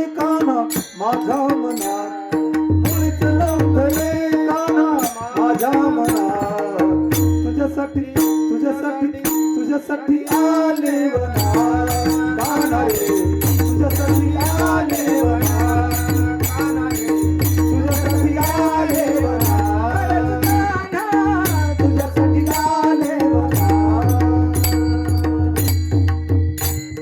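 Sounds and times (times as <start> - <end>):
devotional song: 0.0 - 25.8.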